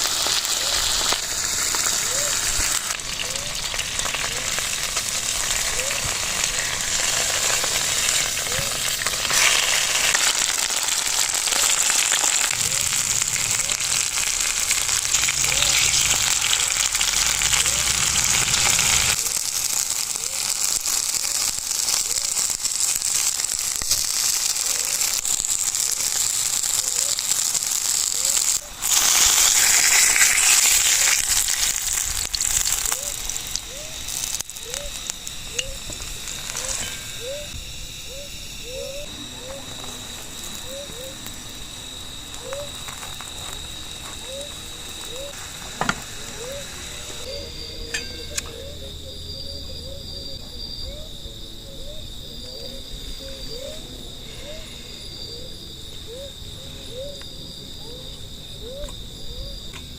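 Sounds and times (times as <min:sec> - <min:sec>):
loud hissing crackling noise: 0:00.0 - 0:48.8
night insects chirring: 0:00.0 - 0:59.9.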